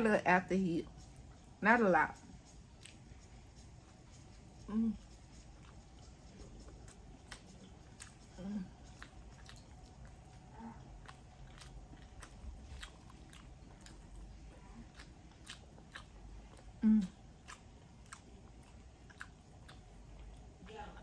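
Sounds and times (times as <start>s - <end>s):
person chewing wetly: 2.2s - 21.0s.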